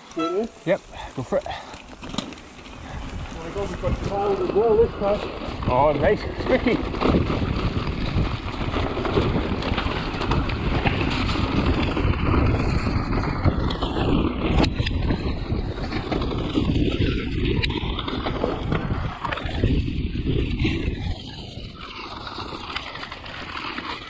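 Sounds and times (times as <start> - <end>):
bike rattling and knocking: 0.0 - 24.0
tyres rumbling over ground: 0.0 - 24.0
wind buffeting microphone: 0.0 - 24.0.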